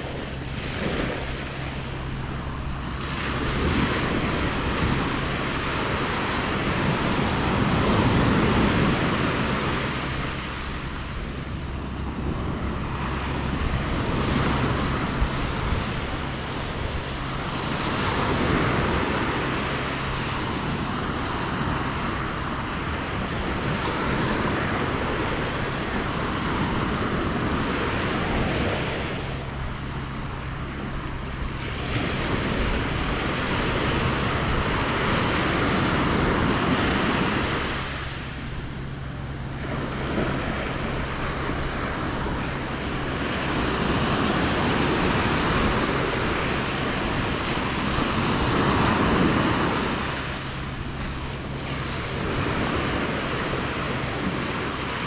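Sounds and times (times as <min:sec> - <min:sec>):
surf breaking on beach: 0:00.0 - 0:55.0.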